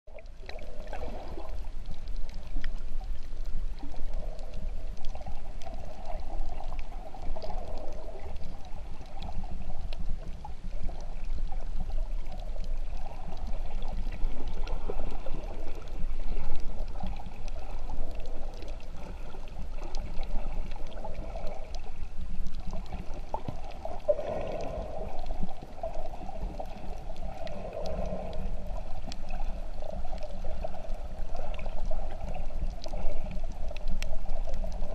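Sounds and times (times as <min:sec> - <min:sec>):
faint clicks: 0:00.1 - 0:34.9
muffled underwater rumble: 0:00.1 - 0:34.9
water gurgling and sloshing: 0:00.1 - 0:34.9.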